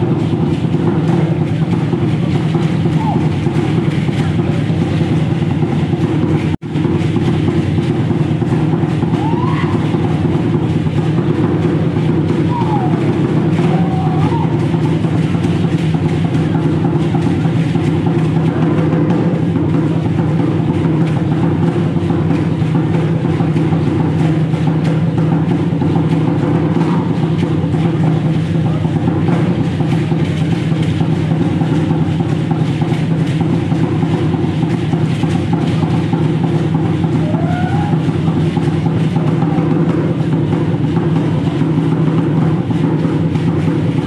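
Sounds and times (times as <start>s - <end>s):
steady loud drumming: 0.0s - 44.0s.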